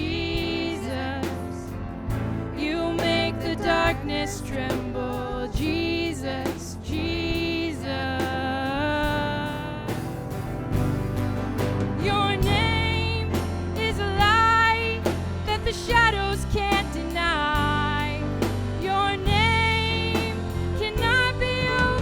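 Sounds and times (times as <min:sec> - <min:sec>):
drum kit beat: 0:00.0 - 0:22.0
sliding lead melody: 0:00.0 - 0:22.0
worship band playing: 0:00.0 - 0:22.0.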